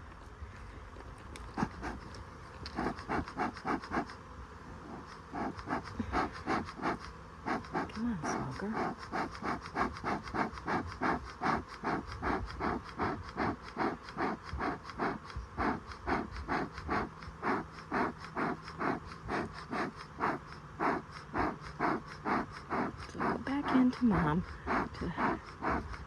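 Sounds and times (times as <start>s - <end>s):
smoker bellows puffing air: 1.5s - 4.2s, 4.8s - 26.0s.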